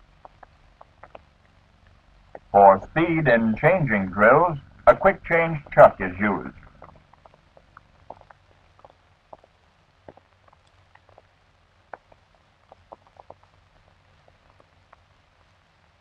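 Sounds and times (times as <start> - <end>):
film soundtrack clicks and pops: 0.0 - 15.6
faint hum: 0.0 - 16.0.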